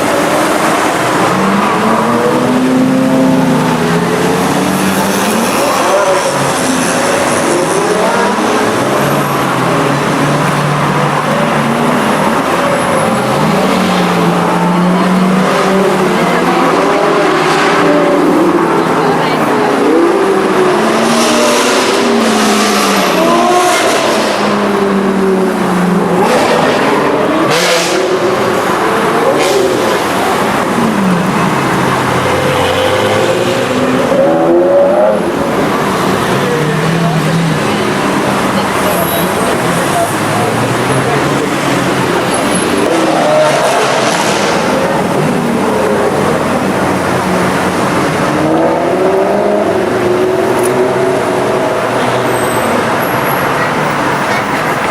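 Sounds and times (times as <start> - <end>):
car engine running loud: 0.0 - 54.9
other cars: 0.0 - 54.9.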